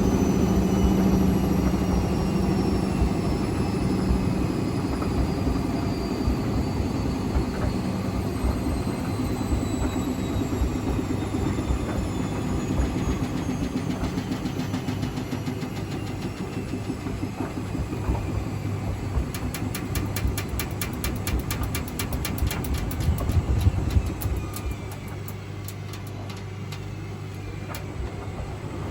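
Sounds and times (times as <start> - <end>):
washing machine motor whine: 0.0 - 28.9.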